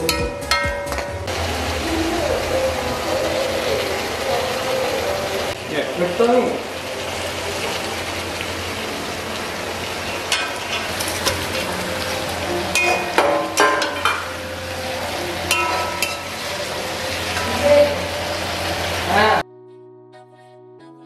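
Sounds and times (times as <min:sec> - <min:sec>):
food sizzling in a pan: 0:01.3 - 0:19.4.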